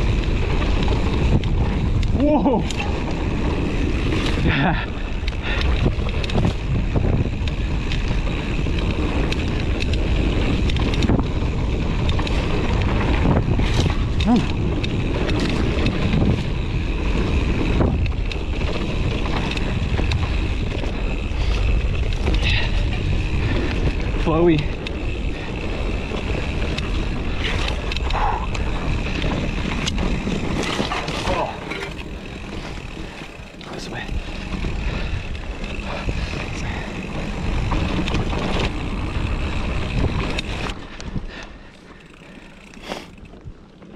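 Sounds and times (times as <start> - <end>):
bike rattling clicks and knocks: 0.0 - 43.9
tyres on dirt trail: 0.0 - 43.9
wind buffeting microphone: 0.0 - 43.9.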